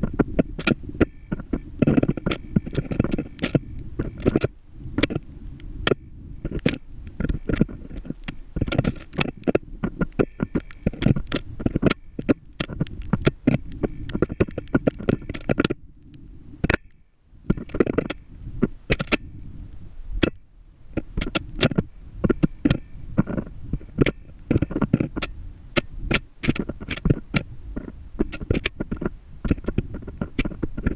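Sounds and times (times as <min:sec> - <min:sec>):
camera rig knocking and scraping: 0:00.0 - 0:05.2, 0:05.9 - 0:15.8, 0:17.5 - 0:18.2, 0:18.9 - 0:19.2, 0:21.0 - 0:30.9.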